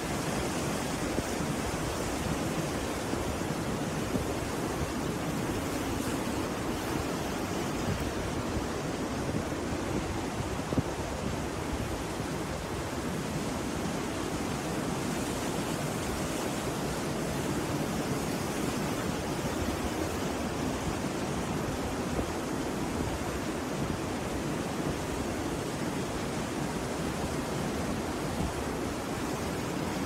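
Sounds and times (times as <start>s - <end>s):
sea surf breaking on beach: 0.0s - 30.0s.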